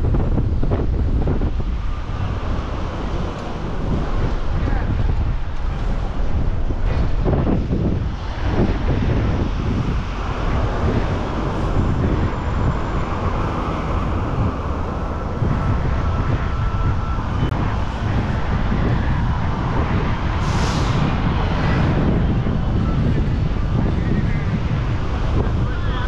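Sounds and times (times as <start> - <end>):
gale wind buffeting microphone: 0.0 - 26.0.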